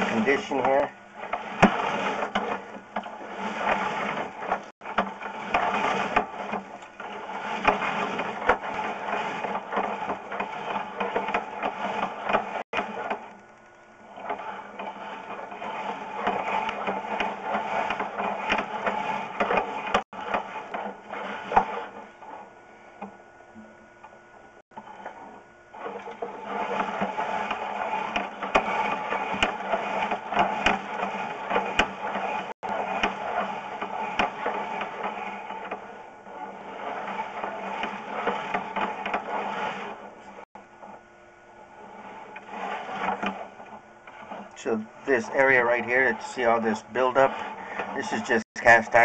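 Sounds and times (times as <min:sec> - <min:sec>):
cable reel rattling clatter: 0:00.0 - 0:22.4, 0:24.8 - 0:40.5, 0:42.0 - 0:49.0.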